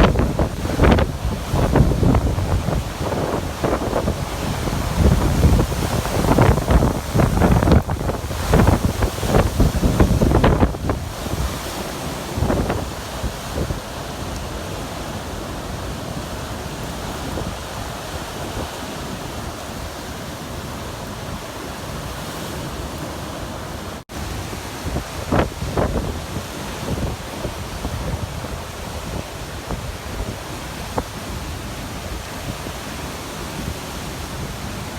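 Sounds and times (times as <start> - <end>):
wind buffeting microphone: 0.0 - 19.9, 24.1 - 33.0
surf: 0.0 - 34.9.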